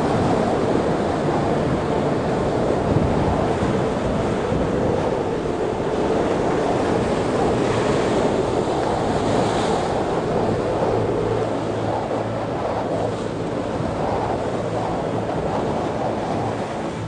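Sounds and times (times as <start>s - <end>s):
heavy surf breaking: 0.0s - 17.0s
wind buffeting microphone: 0.0s - 17.0s.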